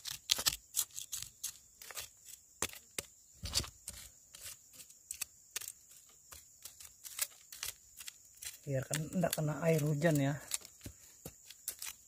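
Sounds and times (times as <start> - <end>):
machete scraping soil: 0.0 - 12.0.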